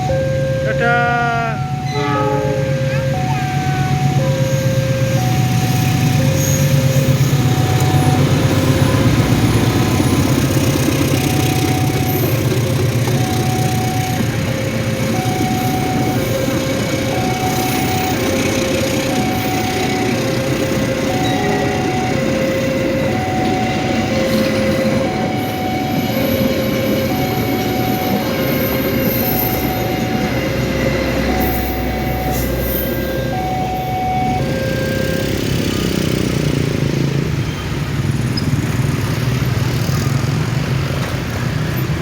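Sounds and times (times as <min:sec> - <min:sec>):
two-tone warning signal: 0:00.0 - 0:36.6
train rumbling past: 0:00.0 - 0:42.0.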